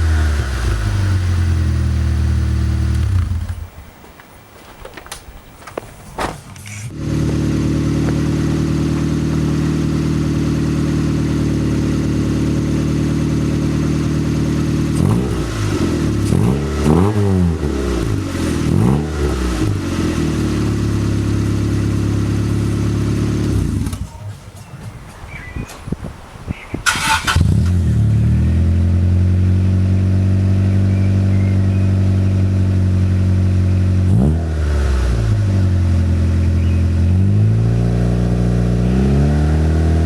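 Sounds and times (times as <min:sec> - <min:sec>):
car engine idling and revving: 0:00.0 - 0:03.7, 0:06.6 - 0:24.2, 0:26.9 - 0:40.0.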